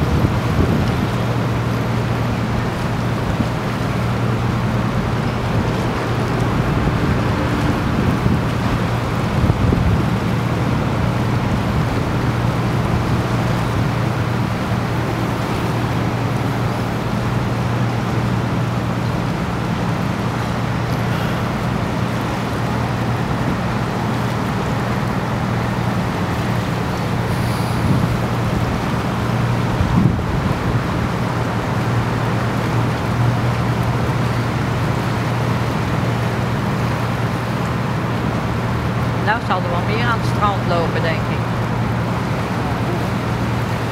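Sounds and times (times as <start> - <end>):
motor boat engine humming: 0.0 - 43.9
water rushing along a hull: 0.0 - 43.9
wind: 0.0 - 43.9.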